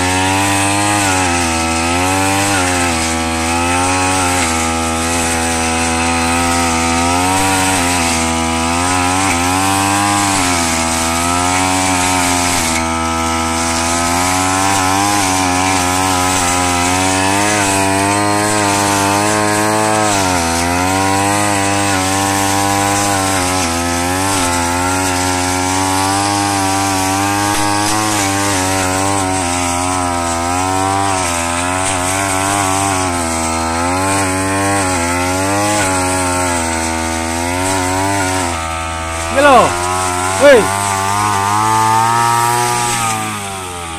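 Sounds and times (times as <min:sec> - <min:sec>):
brush cutter engine running: 0:00.0 - 0:43.9.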